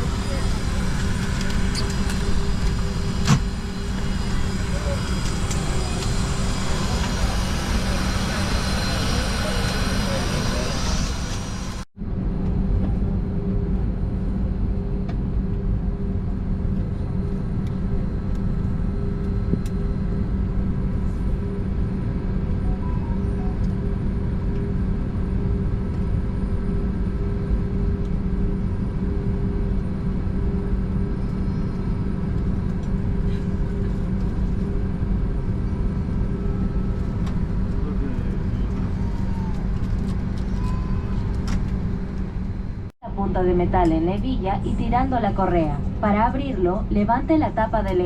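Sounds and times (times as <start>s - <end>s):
airplane cabin drone: 0.0s - 48.0s
constant low hum: 0.0s - 48.0s.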